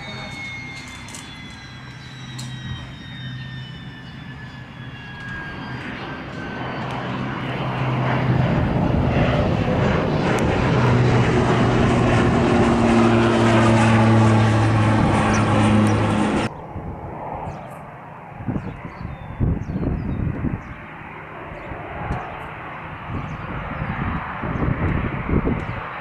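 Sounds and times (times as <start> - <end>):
propeller aircraft drone: 0.0 - 26.0.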